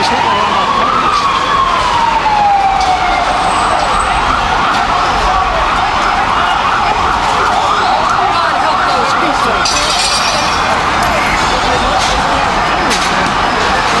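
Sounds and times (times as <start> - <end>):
siren wailing and yelping: 0.0 - 12.7.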